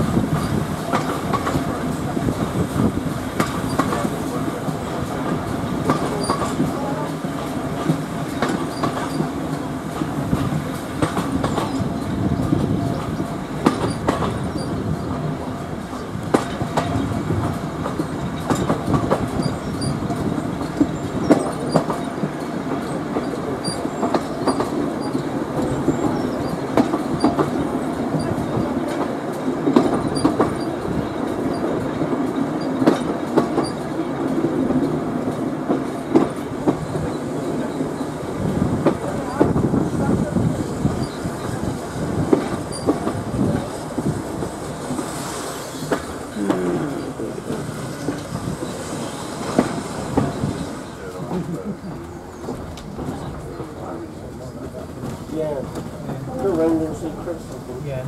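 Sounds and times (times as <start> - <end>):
railway carriage rumble: 0.0 - 58.0
wheels clicking over rail joints: 0.2 - 58.0.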